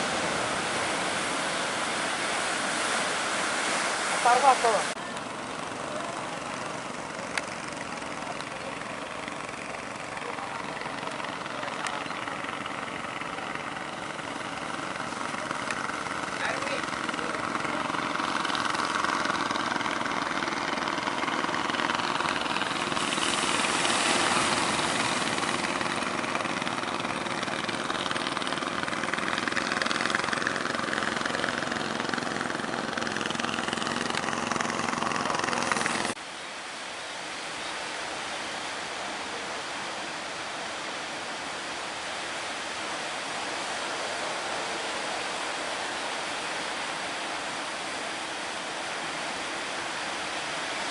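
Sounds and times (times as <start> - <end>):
surf and wind rushing: 0.0 - 7.0, 12.4 - 50.9
boat engine running: 0.0 - 50.9.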